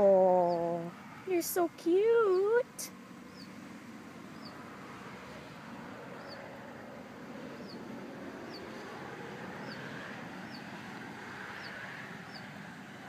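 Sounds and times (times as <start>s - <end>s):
songbird chirping: 0.0s - 6.6s, 7.4s - 12.7s
faint background noise: 0.0s - 13.0s.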